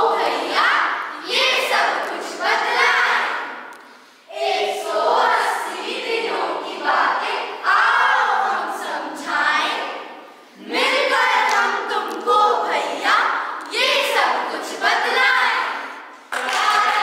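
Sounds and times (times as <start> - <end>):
children singing in chorus: 0.0 - 17.0.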